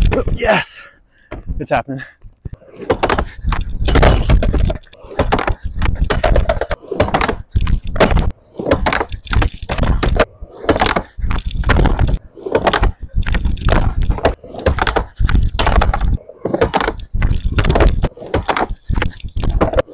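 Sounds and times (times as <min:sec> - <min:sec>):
skateboard wheels rolling on wood: 0:02.6 - 0:19.9
skateboard clacking on wood: 0:02.8 - 0:19.9.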